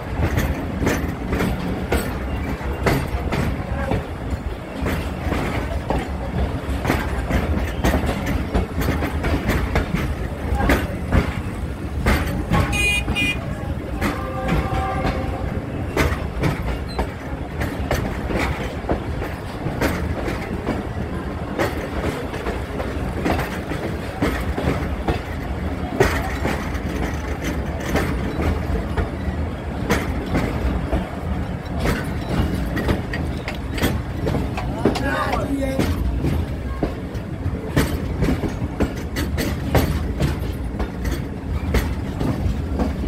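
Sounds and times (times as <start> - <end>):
train rumbling at speed: 0.0 - 43.0
wheels clattering over rail joints: 0.0 - 43.0.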